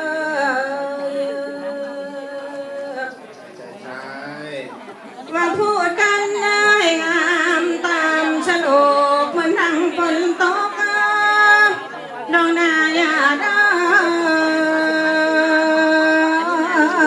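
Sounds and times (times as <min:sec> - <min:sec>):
person singing folk song: 0:00.0 - 0:03.2, 0:05.3 - 0:17.0.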